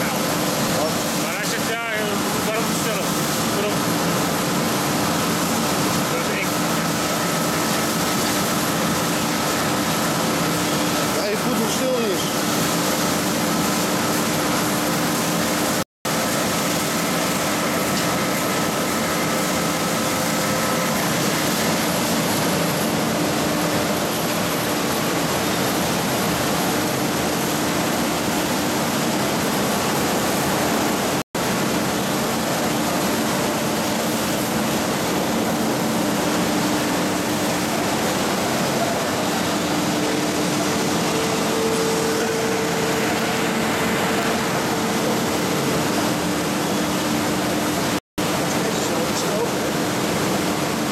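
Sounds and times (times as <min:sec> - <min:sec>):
industrial machinery rushing noise: 0:00.0 - 0:50.9.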